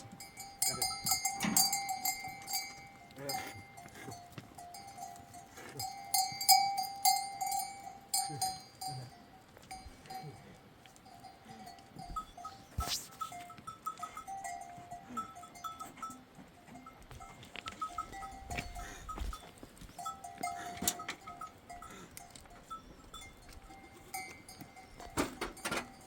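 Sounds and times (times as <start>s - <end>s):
sheep and goat bells ringing: 0.0s - 26.0s.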